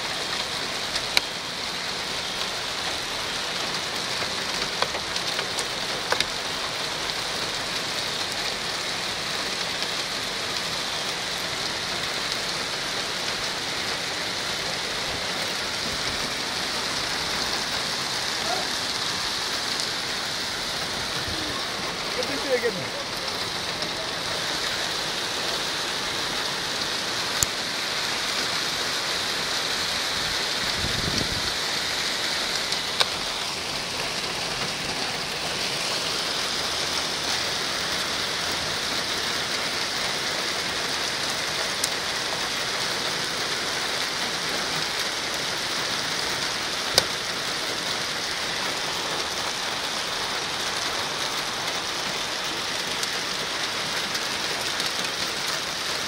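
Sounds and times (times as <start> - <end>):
heavy rain falling: 0.0 - 56.0
raindrops ticking on hard surface: 0.2 - 56.0.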